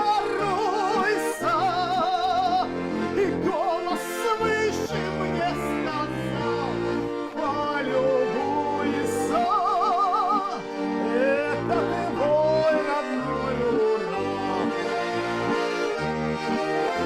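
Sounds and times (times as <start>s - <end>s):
person singing with vibrato: 0.0s - 15.2s
instrumental accompaniment: 0.0s - 17.0s.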